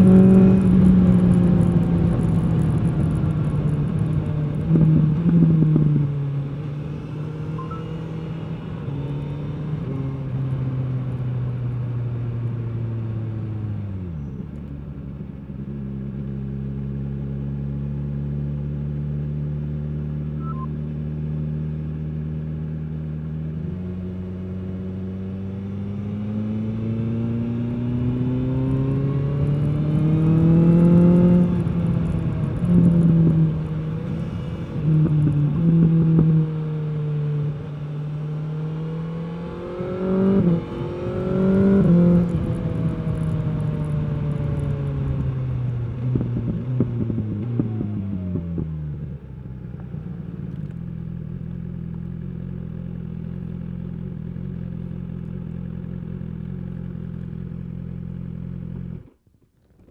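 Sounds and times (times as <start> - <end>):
motorcycle engine revving: 0.0 - 13.2, 21.5 - 59.1.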